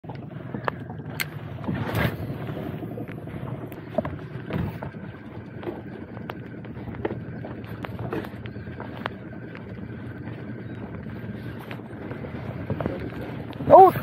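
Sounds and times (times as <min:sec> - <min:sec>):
wind on microphone: 0:00.1 - 0:14.0.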